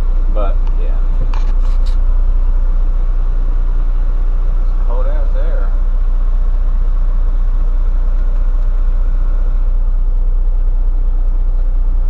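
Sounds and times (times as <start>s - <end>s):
air conditioning blowing air: 0.0s - 12.0s
diesel truck idling: 0.0s - 12.0s.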